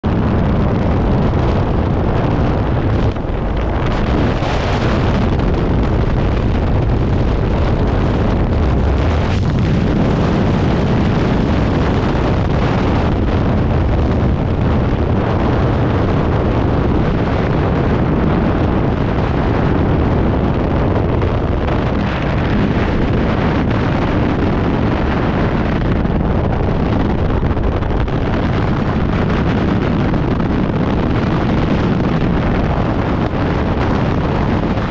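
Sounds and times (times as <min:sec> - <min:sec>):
freefall wind buffeting microphone: 0:00.0 - 0:34.9.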